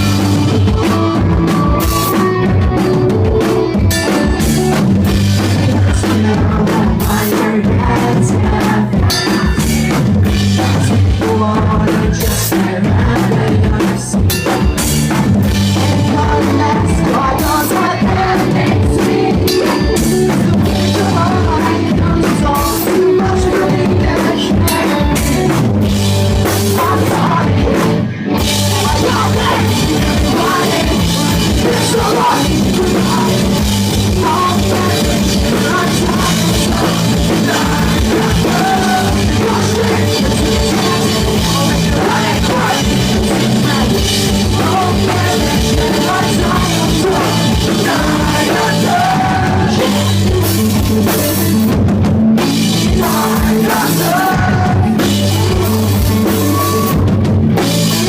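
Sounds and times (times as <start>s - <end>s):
pop-punk band playing live: 0.0s - 58.0s
person singing: 5.4s - 9.7s, 10.5s - 14.5s, 15.7s - 51.4s, 52.4s - 58.0s.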